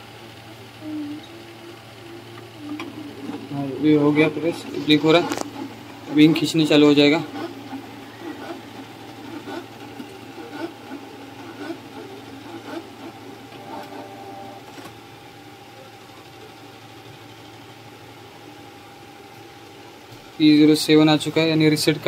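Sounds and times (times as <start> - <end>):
printer pump hum: 0.0 - 22.0.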